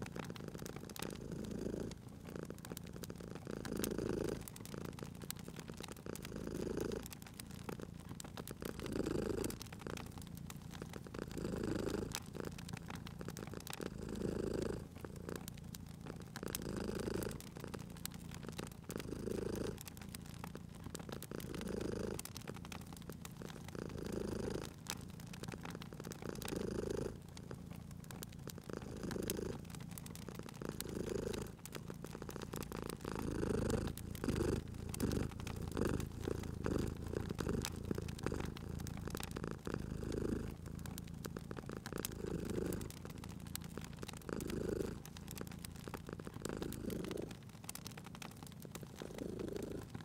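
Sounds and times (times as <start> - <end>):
cat purring: 0.0 - 50.0
wood fire crackling: 0.0 - 50.0.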